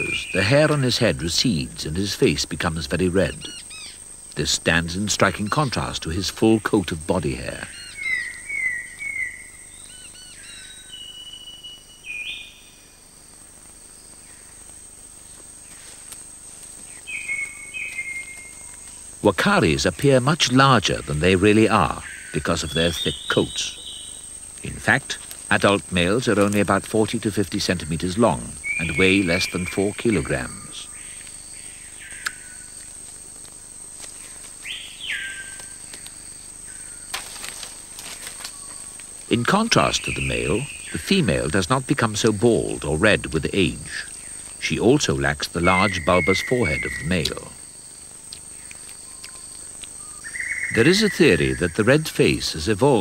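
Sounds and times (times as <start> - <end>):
birds whistling calls: 0.0 - 2.4, 3.0 - 13.0, 16.8 - 19.0, 20.2 - 26.8, 27.6 - 32.9, 34.2 - 37.1, 38.3 - 53.0
high insect drone: 0.0 - 53.0.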